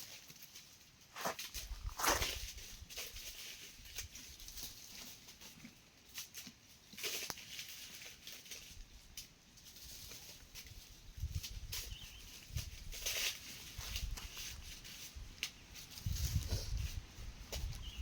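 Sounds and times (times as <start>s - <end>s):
leaves and stalks rustling: 0.0s - 18.0s.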